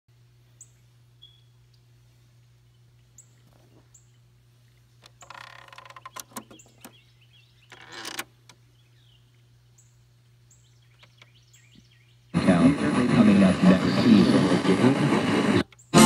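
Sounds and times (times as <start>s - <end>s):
steady low hum: 0.1s - 5.3s, 8.3s - 16.0s
small birds chirping: 0.5s - 14.1s, 15.7s - 16.0s.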